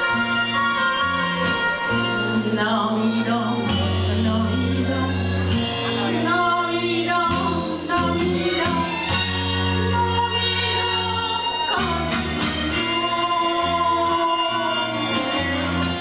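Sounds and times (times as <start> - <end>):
instrumental backing music: 0.0 - 16.0
woman singing into a microphone: 0.0 - 16.0.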